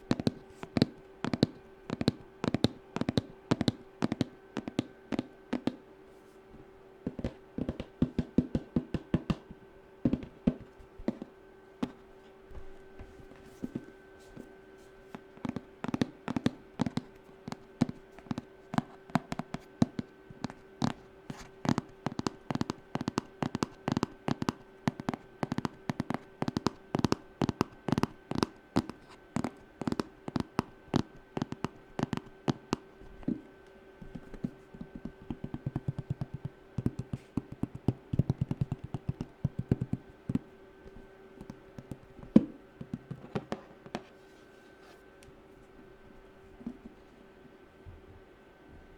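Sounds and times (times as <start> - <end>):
fingernails tapping: 0.0 - 5.8, 7.0 - 12.0, 15.1 - 44.1
faint steady hum: 0.0 - 48.9.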